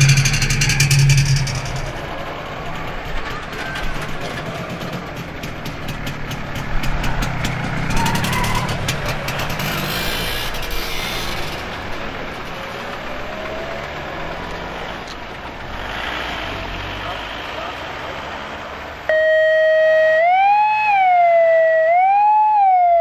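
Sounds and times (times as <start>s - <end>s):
van engine driving past: 0.0s - 19.1s
old motorcycle engine passing: 0.0s - 20.9s.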